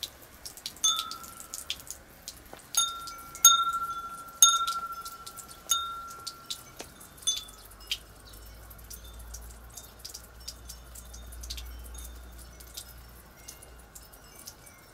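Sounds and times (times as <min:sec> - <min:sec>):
glass wind chimes ringing: 0:00.8 - 0:01.8, 0:02.8 - 0:14.9.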